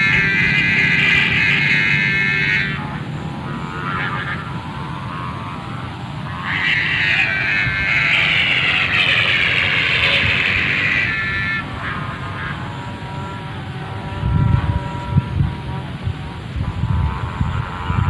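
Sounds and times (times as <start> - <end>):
humming bow on a kite droning: 0.0 - 18.0.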